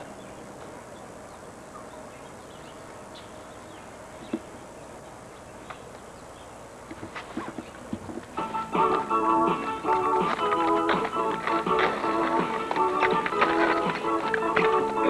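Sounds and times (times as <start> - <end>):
faint hum and hiss: 0.0 - 15.0.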